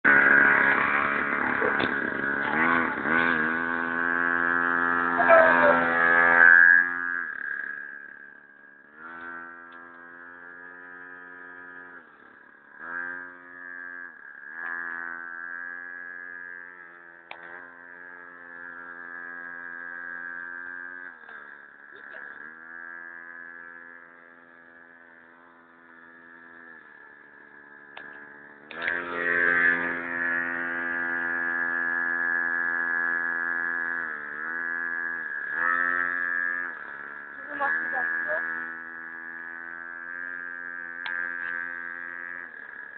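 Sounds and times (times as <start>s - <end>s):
small engine buzzing: 0.0s - 42.9s.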